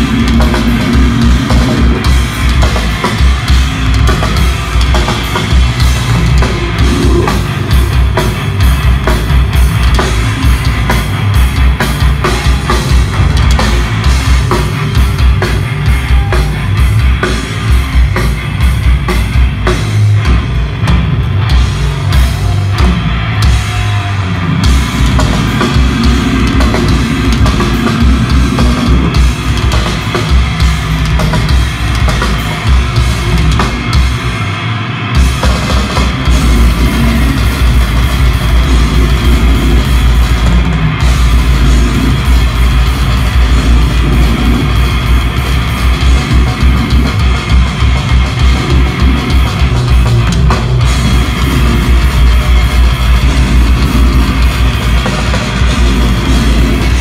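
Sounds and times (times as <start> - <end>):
distorted guitars: 0.0 - 57.0
pounding bass drum beats: 0.0 - 57.0.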